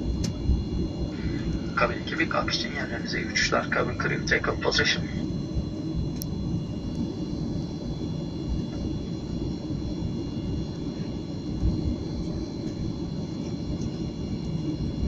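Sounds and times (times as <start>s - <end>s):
jet engine high whine: 0.0s - 15.0s
jet engine low rumble: 0.0s - 15.0s.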